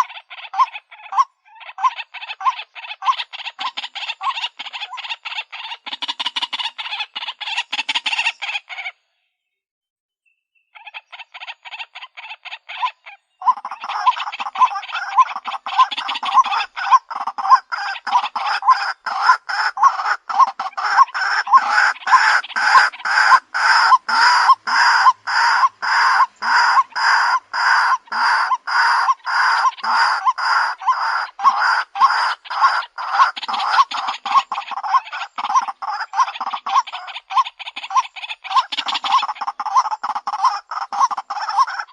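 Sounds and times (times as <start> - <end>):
waterhen harsh call: 0.0 - 9.0, 10.8 - 41.9.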